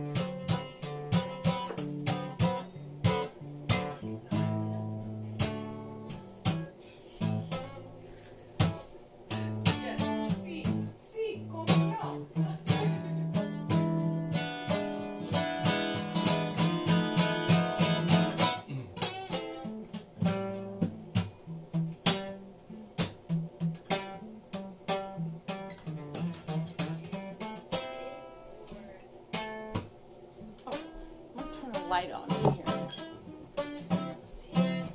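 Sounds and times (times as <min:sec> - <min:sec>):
acoustic guitar playing: 0:00.0 - 0:34.9.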